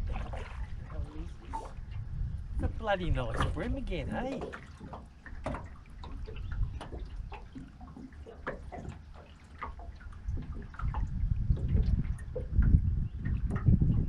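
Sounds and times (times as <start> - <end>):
water splashes and drips: 0.0 - 14.0
wind buffeting microphone: 0.0 - 14.0.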